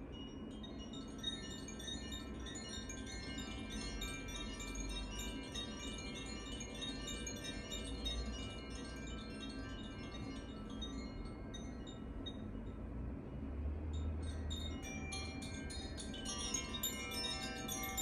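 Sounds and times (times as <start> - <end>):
carillon chimes: 0.0 - 12.6, 14.4 - 18.0.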